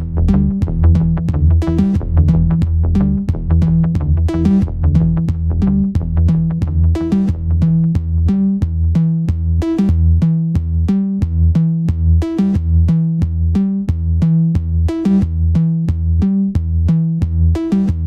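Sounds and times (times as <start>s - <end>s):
drum-machine beat: 0.0s - 18.0s
pulsing synthesizer bass: 0.0s - 18.0s.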